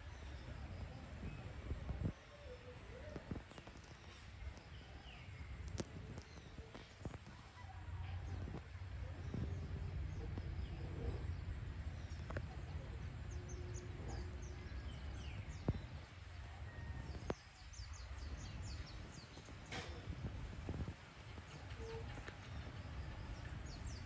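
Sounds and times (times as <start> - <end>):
small birds chirping: 0.0 - 24.0
low steady rumble: 4.0 - 24.0.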